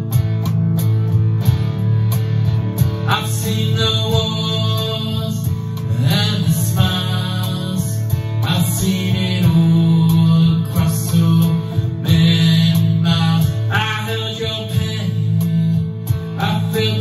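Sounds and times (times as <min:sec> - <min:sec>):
electric guitar chords: 0:00.0 - 0:17.0
man singing: 0:03.0 - 0:17.0.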